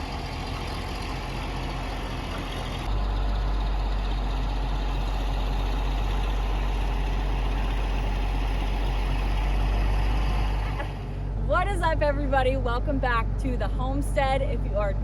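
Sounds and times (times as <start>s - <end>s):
excavator diesel engine idling: 0.0s - 15.0s.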